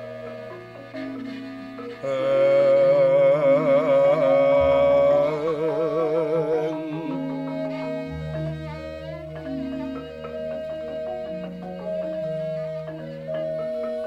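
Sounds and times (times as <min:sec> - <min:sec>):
sustained metallophone tones: 0:00.0 - 0:14.0.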